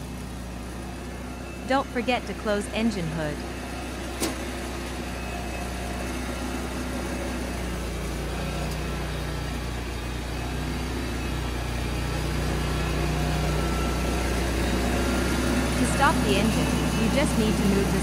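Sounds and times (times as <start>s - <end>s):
mower engine running: 0.0s - 18.0s.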